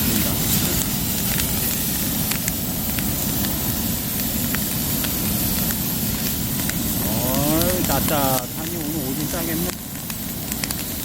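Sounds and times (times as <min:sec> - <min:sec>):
crackles and pops of burning wood: 0:00.0 - 0:11.0
wood fire rushing: 0:00.0 - 0:11.0.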